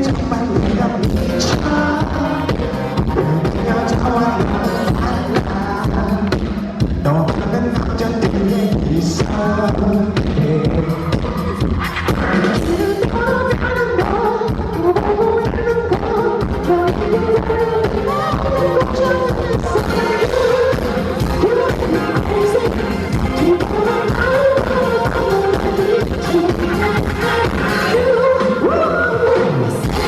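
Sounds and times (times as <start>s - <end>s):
steady beat: 0.0s - 28.5s
man singing pop song: 0.0s - 30.0s.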